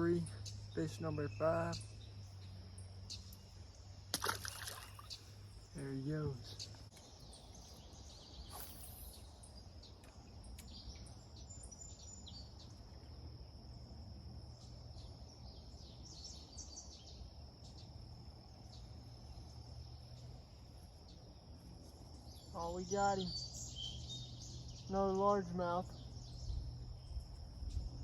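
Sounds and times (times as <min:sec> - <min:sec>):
bird chirps: 0:00.0 - 0:13.2, 0:14.5 - 0:18.0, 0:18.6 - 0:28.0
high insect trill: 0:00.0 - 0:28.0.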